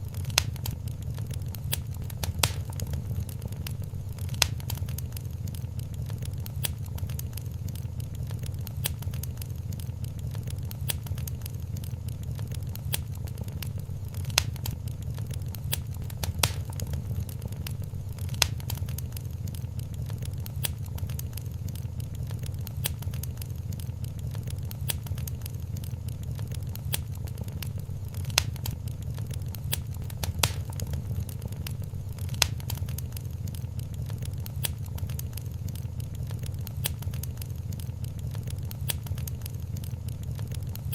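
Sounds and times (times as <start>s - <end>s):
fire low rumble: 0.0s - 40.9s
fire snaps and pops: 0.0s - 40.9s
wood fire crackling: 0.0s - 40.9s.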